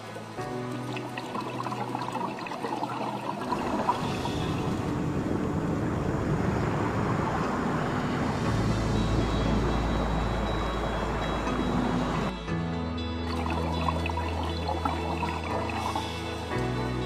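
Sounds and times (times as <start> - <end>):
rushing water-like noise: 0.0 - 12.3, 13.3 - 17.0.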